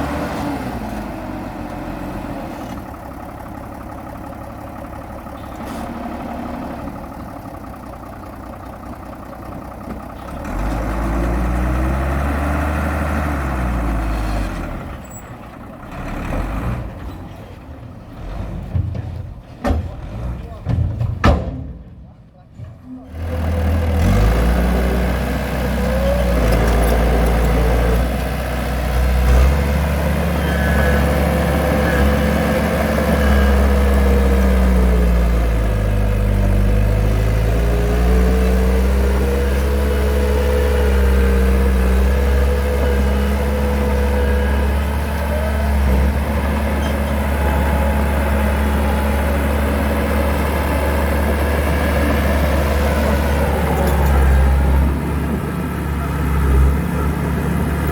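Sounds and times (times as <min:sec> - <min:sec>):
heavy machine engine running: 0:00.0 - 0:57.9.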